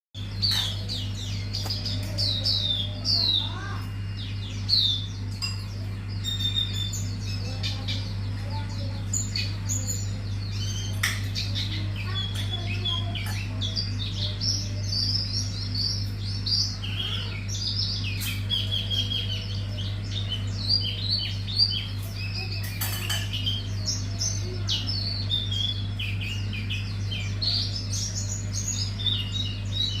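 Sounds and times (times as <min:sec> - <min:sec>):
bird singing high chirps and trills: 0:00.2 - 0:30.0
steady low hum: 0:00.2 - 0:30.0.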